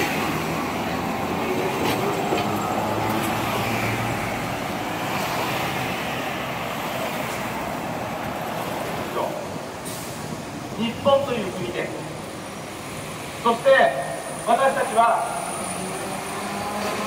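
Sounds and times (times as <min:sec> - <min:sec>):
road traffic: 0:00.0 - 0:17.0
streetcar humming: 0:00.0 - 0:17.0.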